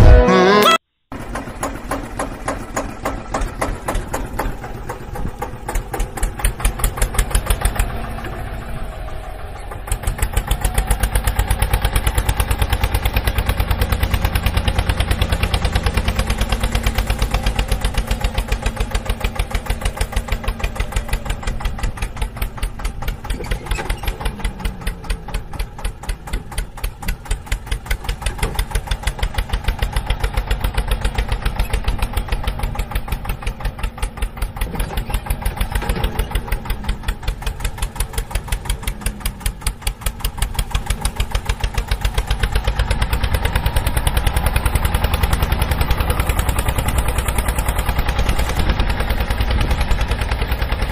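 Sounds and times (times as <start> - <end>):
diesel tractor engine knocking: 1.1 - 50.9.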